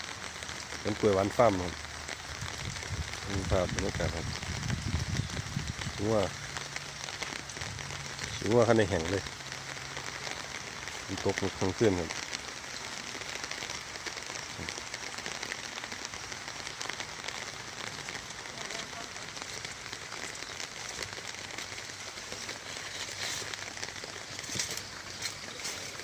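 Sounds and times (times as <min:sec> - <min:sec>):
steady rain patter: 0:00.0 - 0:26.0.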